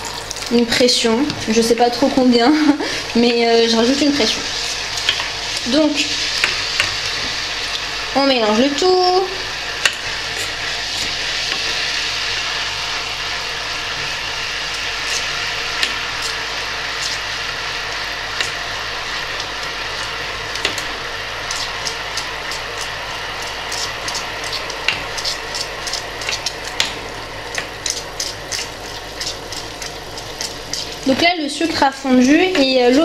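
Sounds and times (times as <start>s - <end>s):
boiling syrup crackling pops: 0.0s - 33.0s
syrup hissing in saucepan: 0.0s - 33.0s.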